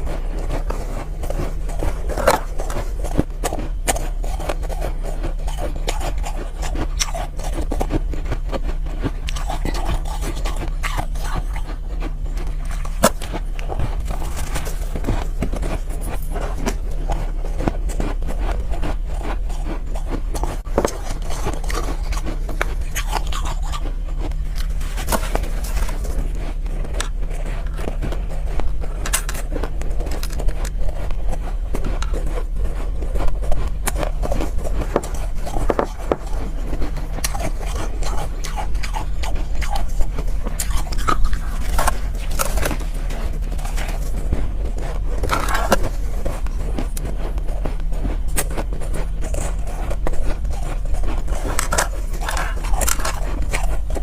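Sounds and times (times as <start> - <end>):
ice crunching and scraping: 0.0 - 54.0
low hum: 0.0 - 54.0.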